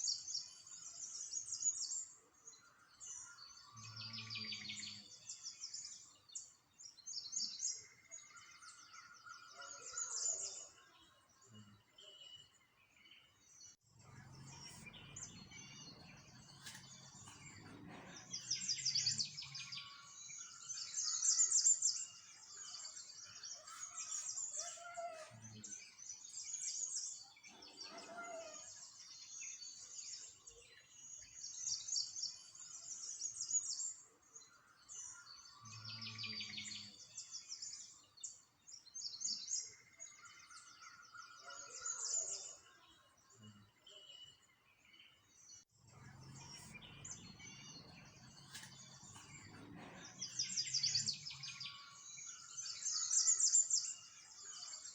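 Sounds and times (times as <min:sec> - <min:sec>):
songbirds chirping and singing: 0:00.0 - 0:54.9.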